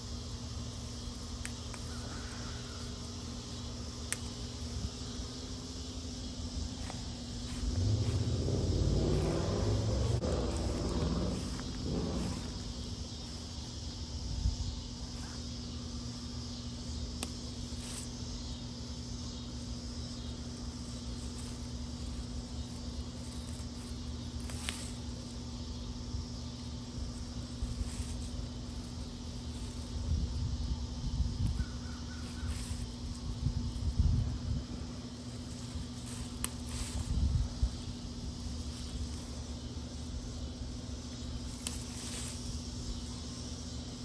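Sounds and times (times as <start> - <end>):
leaves rustling: 0.0 - 44.0
low outdoor hum: 0.0 - 44.0.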